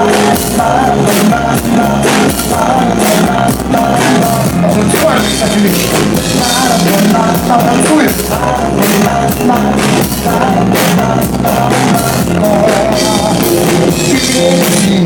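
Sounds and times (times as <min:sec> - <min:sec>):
drum kit steady beat: 0:00.0 - 0:15.0
electric guitar: 0:00.0 - 0:15.0.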